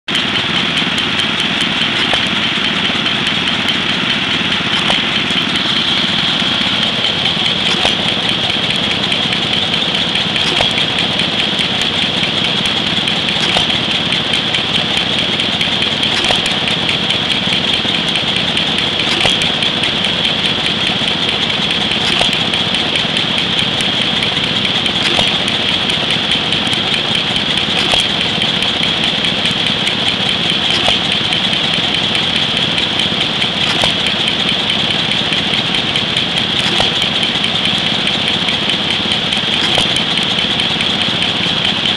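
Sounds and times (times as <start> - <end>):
engine firing strokes: 0.1 - 41.9.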